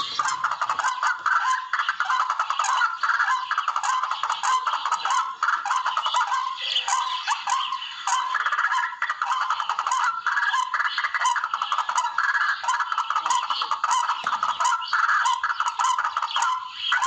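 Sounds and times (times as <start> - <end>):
rail bird calls: 0.0 - 17.0.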